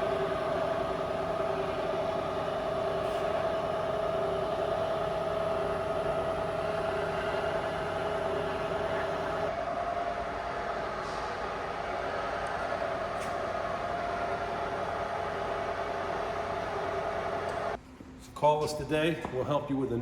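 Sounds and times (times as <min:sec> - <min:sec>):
milling machine whine: 0:00.0 - 0:17.8.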